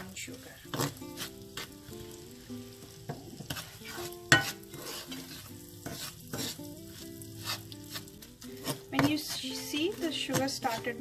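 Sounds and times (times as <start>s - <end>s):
butter sizzling: 0.0s - 11.0s
metal spoon scraping frying pan: 0.6s - 2.0s, 3.3s - 11.0s.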